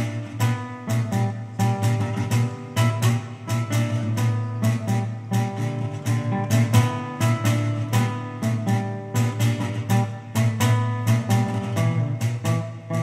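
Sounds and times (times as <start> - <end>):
classical guitar strummed chords: 0.0 - 13.0.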